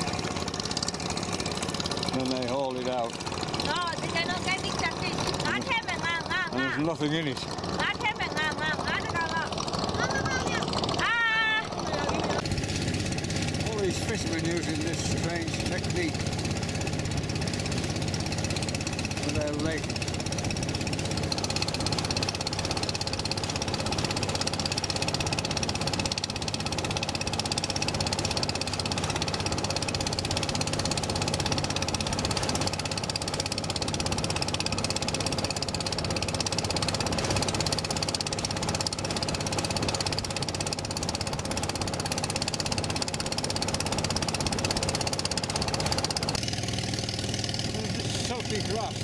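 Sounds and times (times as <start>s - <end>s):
boat engine knocking: 0.0s - 49.0s.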